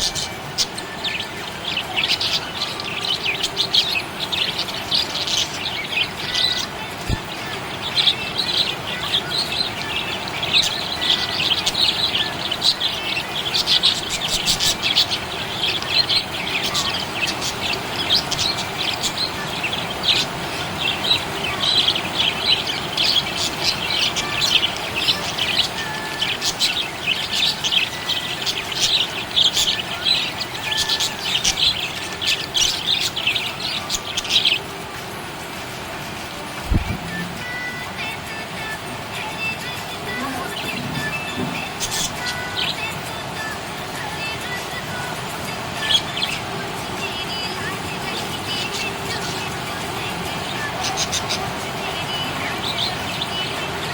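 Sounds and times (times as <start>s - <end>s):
budgies chirping: 0.0s - 53.9s.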